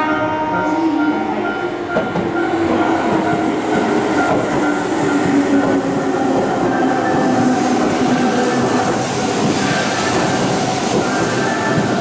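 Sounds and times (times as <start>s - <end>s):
train wheels rolling on rail: 1.4s - 12.0s.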